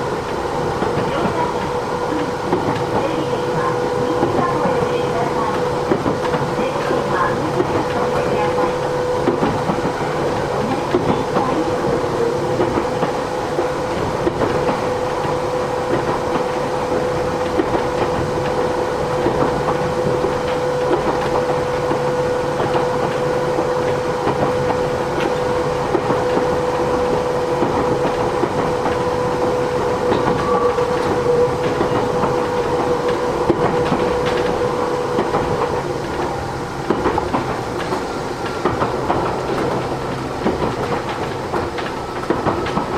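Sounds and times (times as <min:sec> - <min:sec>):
train wheels rattling and clicking: 0:00.0 - 0:42.9.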